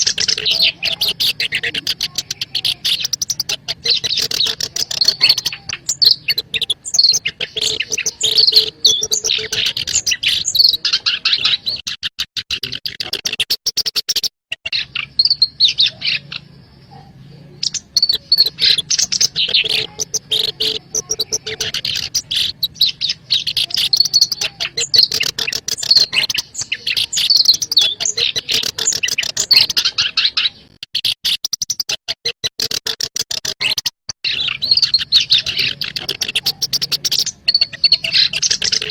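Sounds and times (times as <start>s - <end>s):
reed warbler singing: 0.0s - 16.6s, 17.4s - 32.0s, 32.6s - 38.9s.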